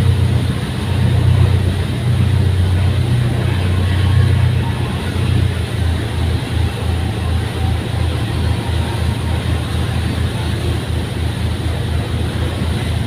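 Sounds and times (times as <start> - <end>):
ferry engine drone: 0.0 - 13.0
rushing wind and water: 0.0 - 13.0.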